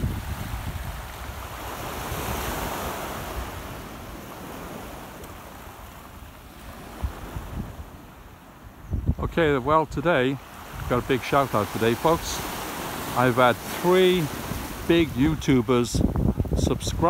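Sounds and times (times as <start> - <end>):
wind on microphone: 0.0 - 5.9, 6.6 - 13.1, 14.3 - 17.0
waves washing onto pebble beach: 0.0 - 8.3, 10.2 - 17.0.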